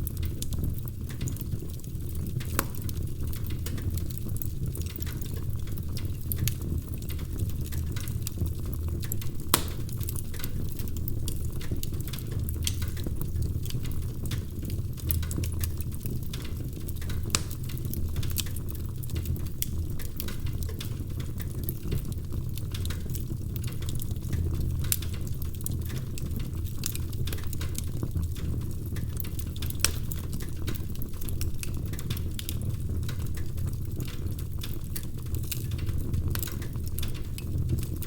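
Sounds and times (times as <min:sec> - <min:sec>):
low rumble of burning logs: 0:00.0 - 0:38.0
wood fire crackling: 0:00.0 - 0:38.0
sharp pops and snaps: 0:00.2 - 0:38.0.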